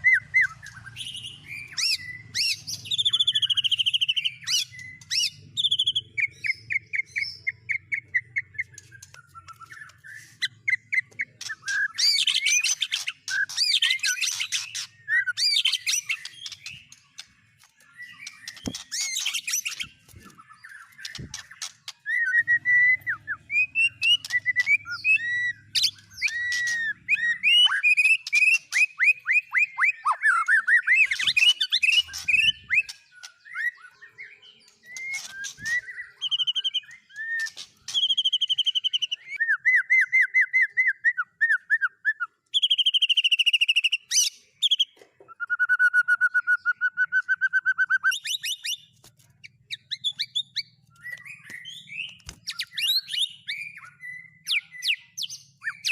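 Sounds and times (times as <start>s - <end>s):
bird singing varied whistled song: 0.0s - 55.9s.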